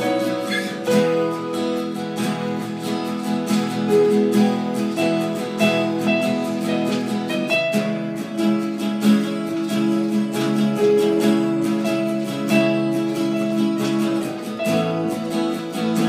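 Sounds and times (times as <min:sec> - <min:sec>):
acoustic guitar strumming: 0:00.0 - 0:16.0
digital keyboard chords: 0:00.0 - 0:16.0.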